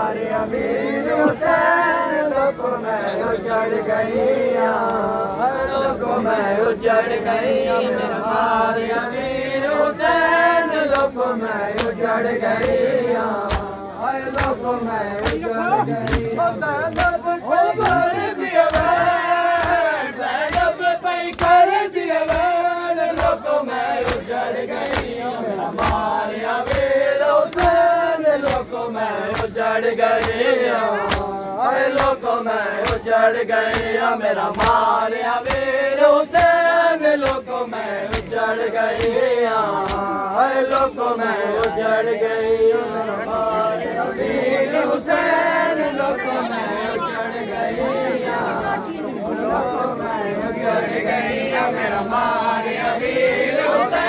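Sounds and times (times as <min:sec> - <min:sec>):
men chanting in unison: 0:00.0 - 0:54.0
rhythmic chest-beating: 0:00.0 - 0:54.0.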